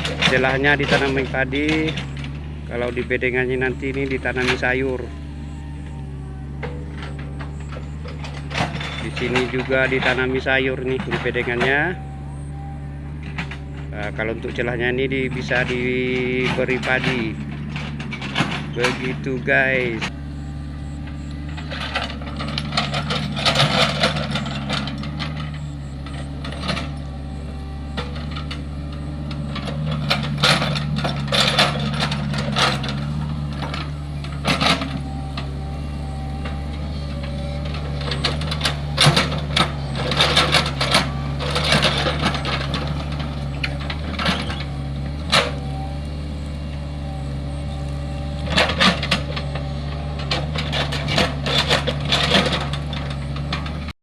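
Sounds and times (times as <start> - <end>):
excavator clanking and scraping soil: 0.0 - 54.0
excavator diesel engine running: 0.0 - 54.0.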